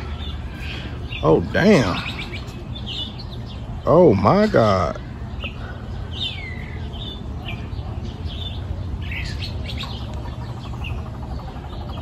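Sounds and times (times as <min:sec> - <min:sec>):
birds chirping: 0:00.0 - 0:12.0
low background hum: 0:00.0 - 0:12.0.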